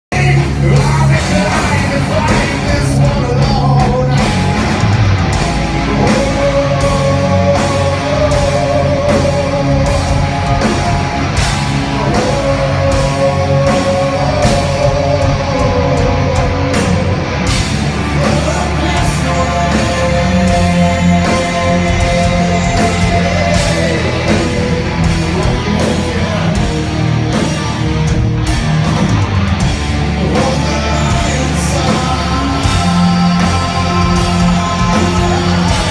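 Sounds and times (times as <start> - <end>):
drums: 0.0 - 35.9
distorted electric guitars: 0.1 - 35.9
heavy rock band playing live: 0.1 - 35.9
singer holding long notes: 0.2 - 27.5, 29.9 - 35.9.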